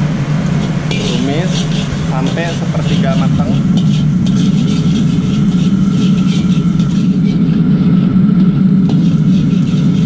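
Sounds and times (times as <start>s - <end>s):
garlic frying in oil: 0.0s - 10.0s
gas burner roaring: 0.0s - 10.0s
metal ladle scraping wok: 0.5s - 10.0s.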